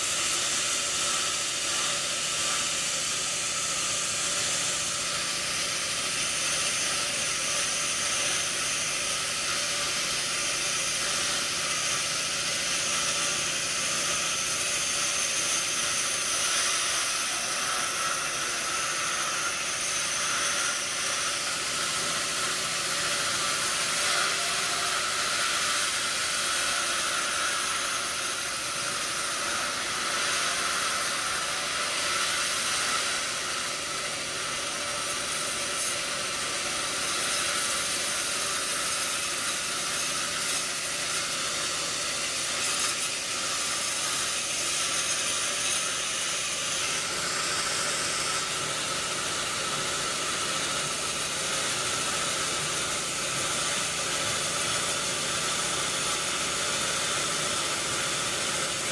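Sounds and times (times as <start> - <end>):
sawmill saw hissing: 0.0 - 58.9.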